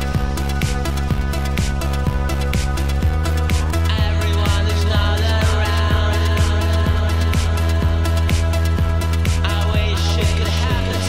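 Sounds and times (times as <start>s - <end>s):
music with steady beat: 0.0s - 11.0s
sustained low bass: 0.0s - 11.0s.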